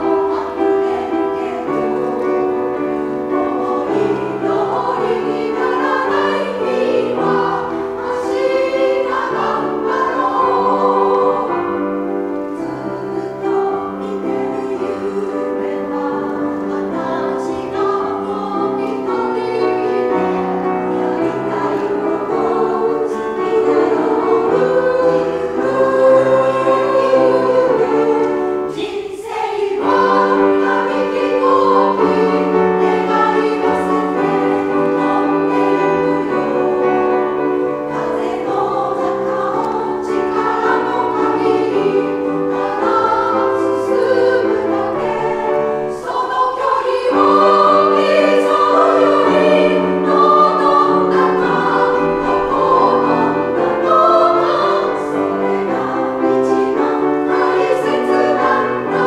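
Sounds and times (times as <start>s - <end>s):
piano accompaniment: 0.0s - 59.0s
women's choir singing: 0.0s - 59.0s.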